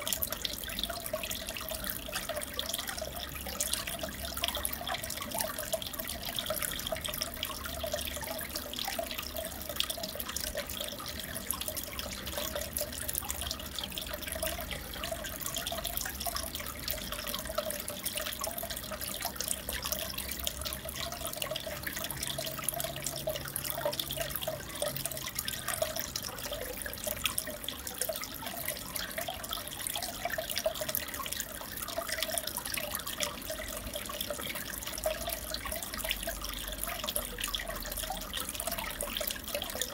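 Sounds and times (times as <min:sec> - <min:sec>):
aquarium water bubbling: 0:00.0 - 0:39.9
water drips and splashes: 0:00.0 - 0:39.9.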